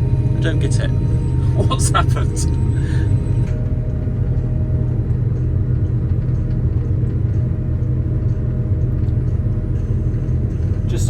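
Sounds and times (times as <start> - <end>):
faint hum: 0.0 - 11.0
tractor and harvester rumble: 0.0 - 11.0.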